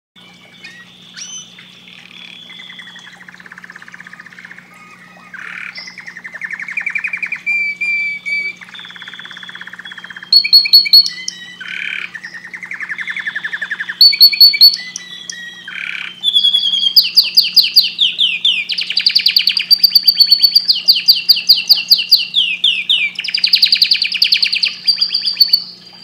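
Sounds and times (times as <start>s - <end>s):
canary singing trills: 0.2s - 26.0s.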